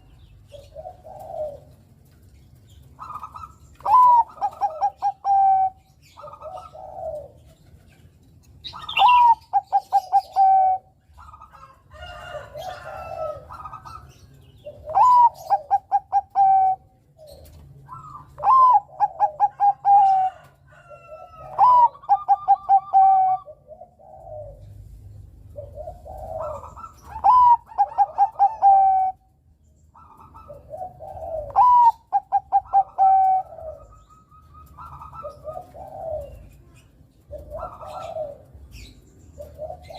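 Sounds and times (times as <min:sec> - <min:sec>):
dove singing song phrases: 0:00.0 - 0:39.9
soft dove cooing: 0:00.0 - 0:39.9.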